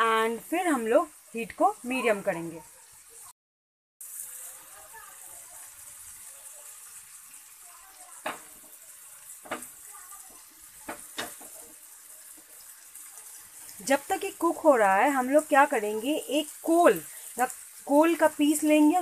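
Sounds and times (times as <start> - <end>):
chicken sizzling in oil: 0.0 - 3.4, 4.0 - 19.0.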